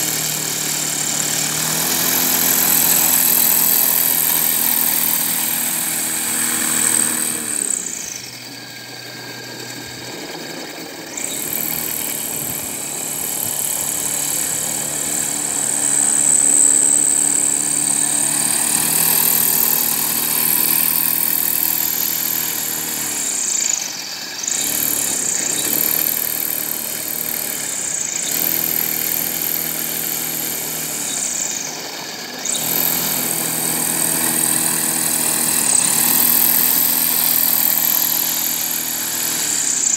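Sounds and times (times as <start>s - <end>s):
electric motor whine: 0.0s - 39.9s
propeller drone: 0.0s - 39.9s.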